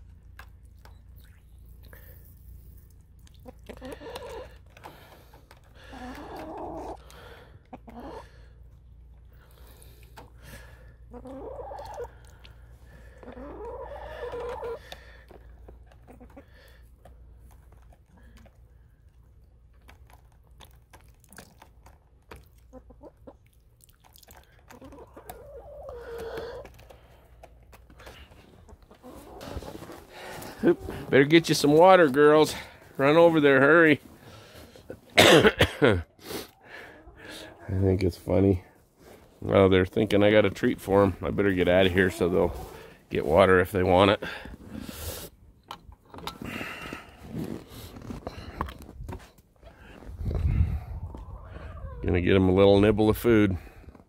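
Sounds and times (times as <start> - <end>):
hens clucking: 2.8 - 35.1, 36.1 - 45.2, 49.4 - 52.4.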